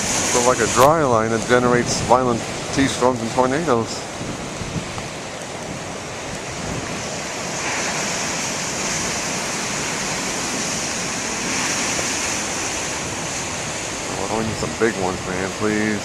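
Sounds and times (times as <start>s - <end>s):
ocean surf breaking: 0.0s - 16.0s
strong wind: 0.0s - 16.0s.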